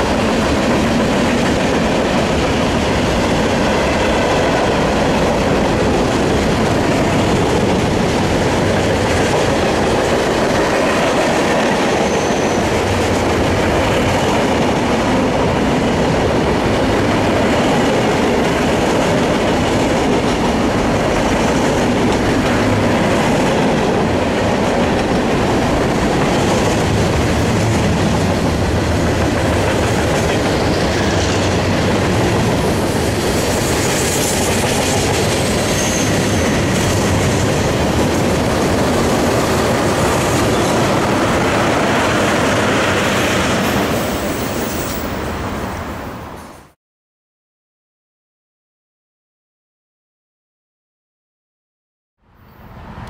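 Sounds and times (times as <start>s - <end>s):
clickety-clack of rail joints: 0.0s - 45.2s
train wheels rumbling on rails: 0.0s - 46.8s.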